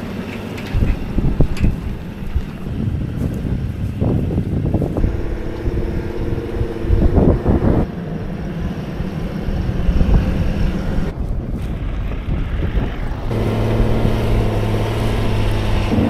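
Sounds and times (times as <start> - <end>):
off-road vehicle engine rumble: 0.0 - 16.0.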